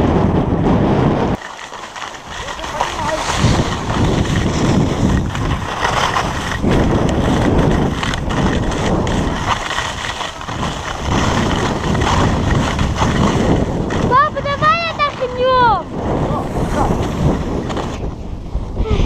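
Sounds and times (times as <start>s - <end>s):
wind rushing over microphone: 0.0s - 19.0s
skis scraping over snow: 0.7s - 18.4s.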